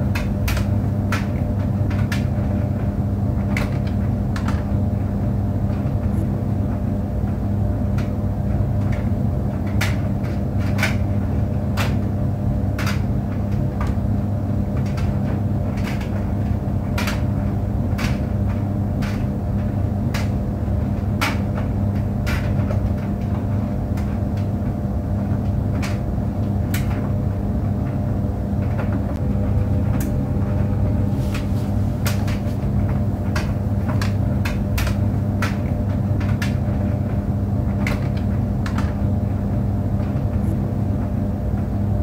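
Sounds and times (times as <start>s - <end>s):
clicks and knocks of tumbling load: 0.0s - 42.0s
clothes dryer humming: 0.0s - 42.0s.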